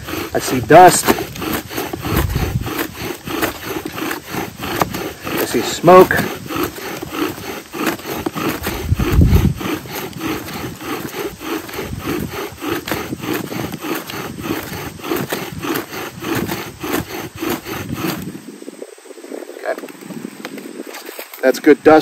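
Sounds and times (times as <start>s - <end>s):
bow drill grinding into wood: 0.0s - 18.6s.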